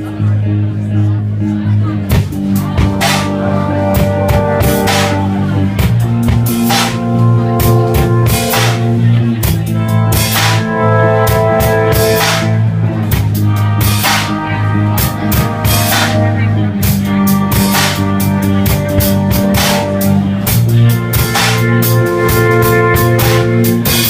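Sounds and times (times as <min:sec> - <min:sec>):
instrumental rock music: 0:00.0 - 0:24.0.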